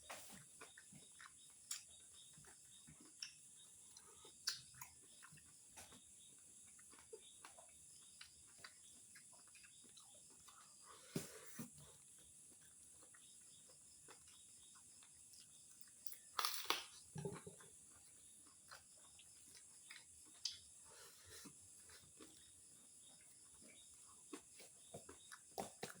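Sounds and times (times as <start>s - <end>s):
crunchy chewing: 0.0s - 26.0s.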